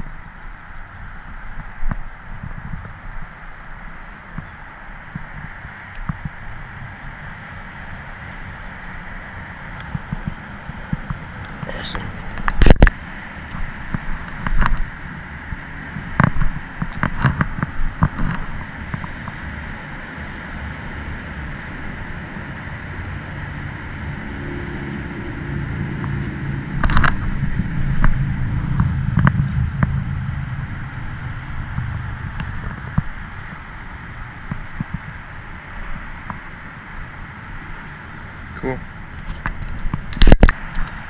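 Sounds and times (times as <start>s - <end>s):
low hum: 0.0s - 41.0s
wind on microphone: 0.0s - 41.0s.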